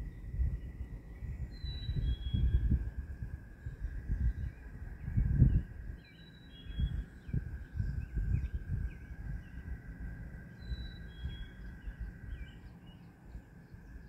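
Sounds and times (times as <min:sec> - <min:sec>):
bird chirps: 0:00.0 - 0:02.8, 0:03.6 - 0:14.0
wind gusting on microphone: 0:00.0 - 0:14.0.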